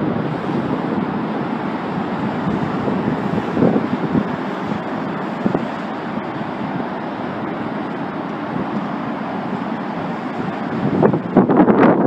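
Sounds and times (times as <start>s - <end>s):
freight train rumbling on bridge: 0.0s - 12.0s
highway traffic noise: 0.0s - 12.0s.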